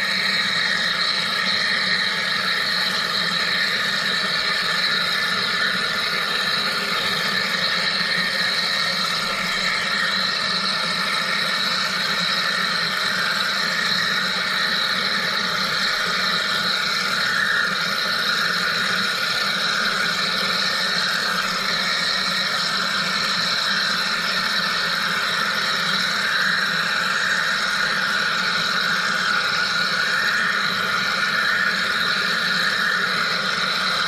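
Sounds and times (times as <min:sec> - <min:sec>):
machine hum and hiss: 0:00.0 - 0:34.0.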